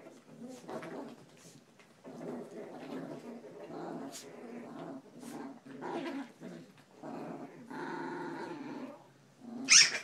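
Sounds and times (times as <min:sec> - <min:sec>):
small dogs growling: 0:00.0 - 0:10.0.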